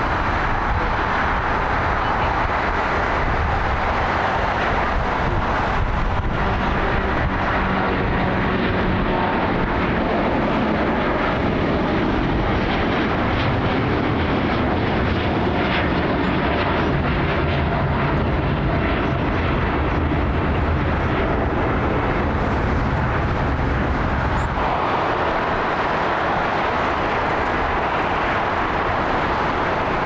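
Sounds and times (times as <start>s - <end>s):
jet engines running: 0.0s - 30.0s.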